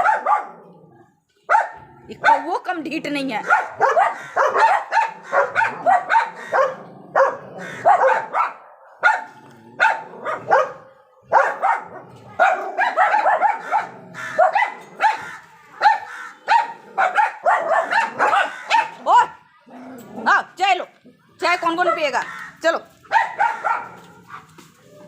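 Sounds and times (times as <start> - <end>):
dogs barking: 0.0 - 0.7, 1.5 - 2.6, 3.4 - 19.4, 21.8 - 22.5, 23.1 - 24.7.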